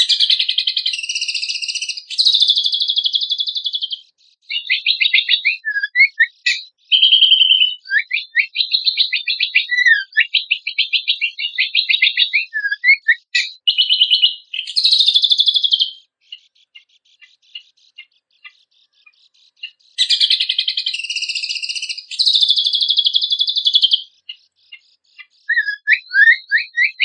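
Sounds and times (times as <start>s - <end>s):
bird singing trills and whistles: 0.0s - 27.0s.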